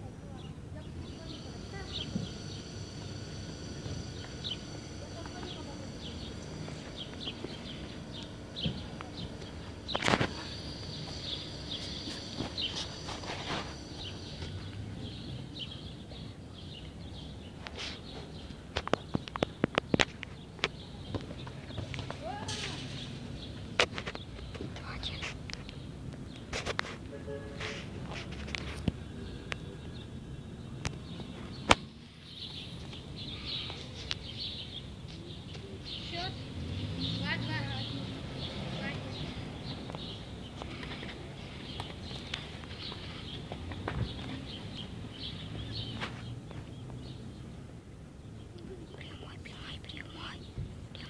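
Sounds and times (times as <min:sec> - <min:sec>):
outdoor background noise: 0:00.0 - 0:51.0
birds chirping faintly: 0:00.1 - 0:26.8, 0:27.4 - 0:51.0.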